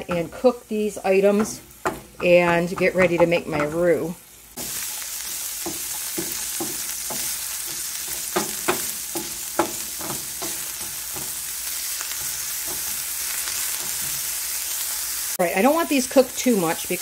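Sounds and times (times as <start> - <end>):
wooden spoon scraping a pan: 0.0 - 15.1
vegetables sizzling in a pan: 0.0 - 17.0.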